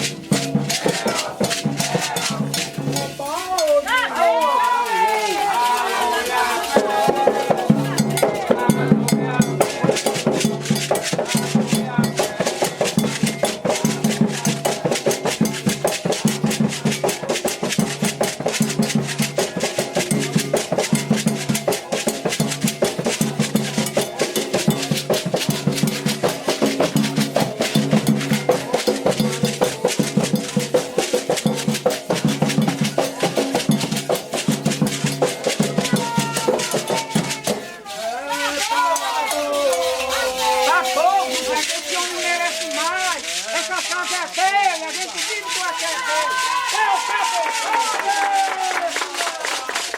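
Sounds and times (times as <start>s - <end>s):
hand drums playing fast rhythm: 0.0s - 49.9s.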